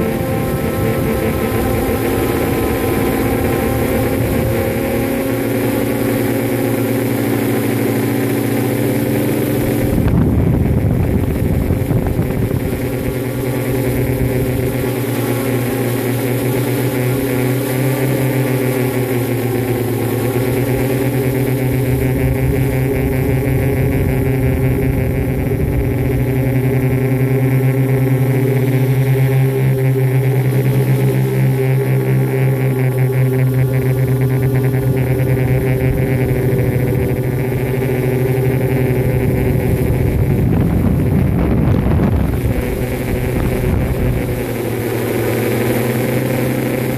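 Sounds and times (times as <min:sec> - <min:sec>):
drone propellers humming: 0:00.0 - 0:46.9.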